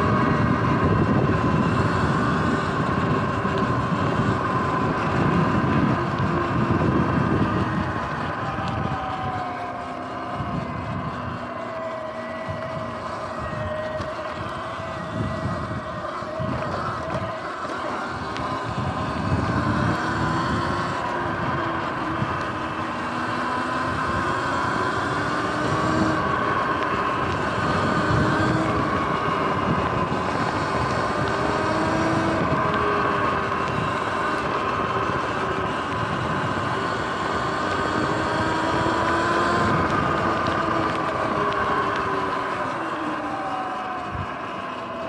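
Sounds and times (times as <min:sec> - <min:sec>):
wind noise on microphone: 0:00.0 - 0:44.4
electric motor whine: 0:00.0 - 0:45.0.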